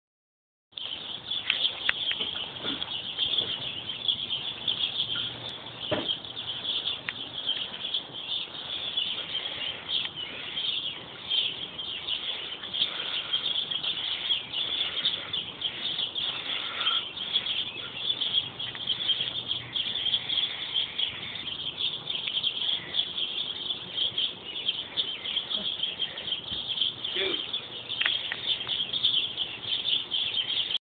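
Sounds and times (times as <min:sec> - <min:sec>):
high-pitched chirping chorus: 0:00.7 - 0:30.8.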